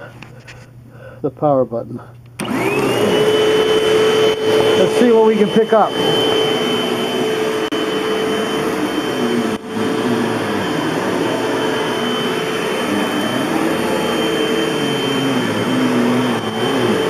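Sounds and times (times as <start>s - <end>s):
vacuum cleaner running on carpet: 2.4s - 17.0s.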